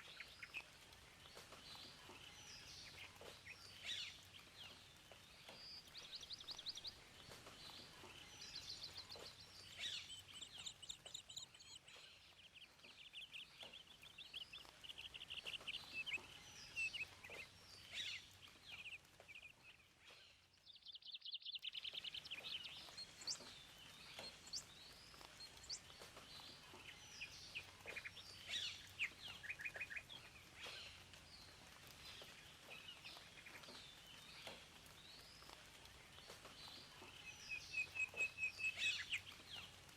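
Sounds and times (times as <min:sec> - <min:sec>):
faint background hiss: 0:00.0 - 0:39.9
songbirds singing and calling: 0:00.0 - 0:39.9.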